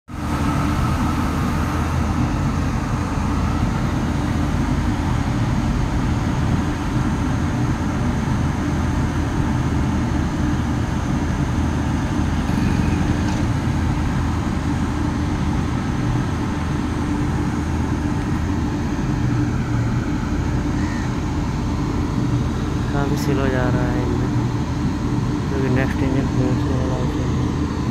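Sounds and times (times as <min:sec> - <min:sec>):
train rumbling: 0:00.1 - 0:27.9.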